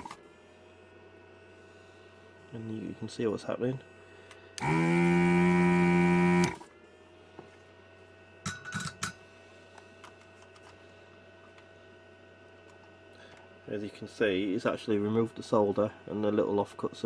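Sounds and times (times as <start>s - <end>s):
desoldering pump buzzing: 0.0s - 17.0s.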